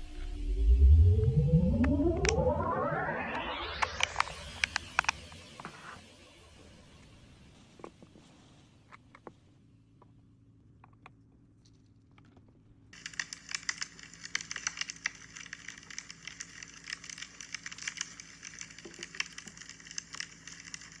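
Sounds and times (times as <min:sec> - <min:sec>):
crackling and popping: 0:00.0 - 0:07.1, 0:10.8 - 0:21.0.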